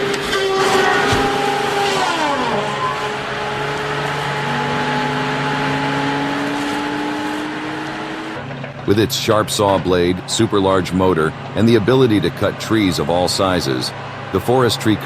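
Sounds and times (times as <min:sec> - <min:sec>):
tree-felling machine engine: 0:00.0 - 0:15.0.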